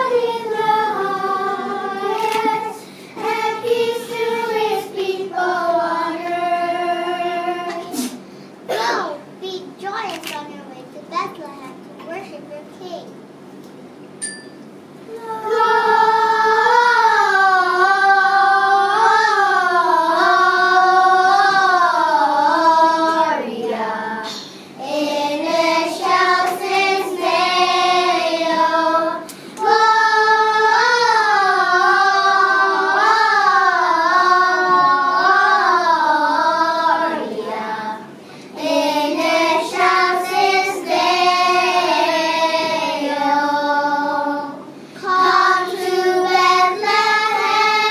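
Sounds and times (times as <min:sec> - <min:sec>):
children's choir singing: 0:00.0 - 0:08.2, 0:15.1 - 0:47.9.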